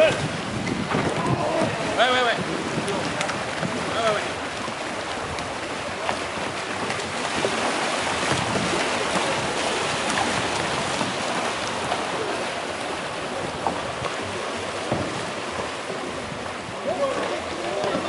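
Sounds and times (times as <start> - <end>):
fast-flowing river water: 0.0 - 18.0
kayak paddle splashes and knocks: 0.0 - 18.0.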